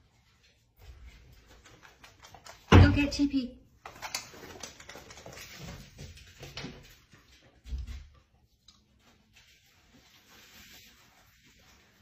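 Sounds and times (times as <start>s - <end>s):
dog paws clicking on hard floor: 0.1s - 12.0s.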